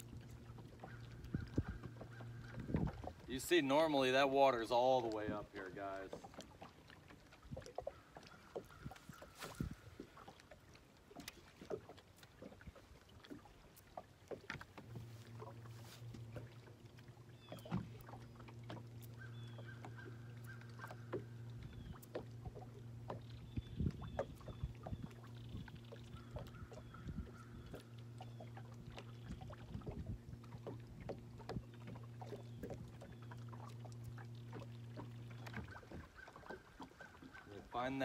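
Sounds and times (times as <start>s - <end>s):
trolling motor humming: 0.0s - 38.0s.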